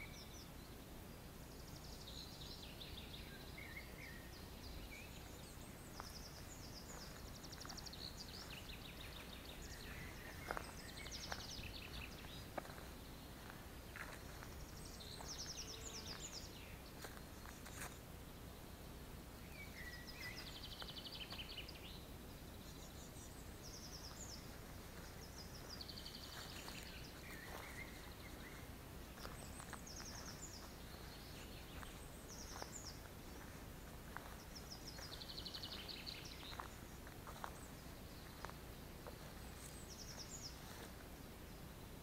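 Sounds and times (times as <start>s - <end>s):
low steady background hum: 0.0s - 42.0s
songbirds trilling: 0.0s - 42.0s.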